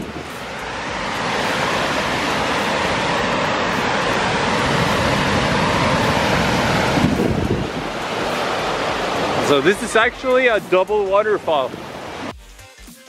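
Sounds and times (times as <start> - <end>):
waterfall roaring: 0.0 - 12.3.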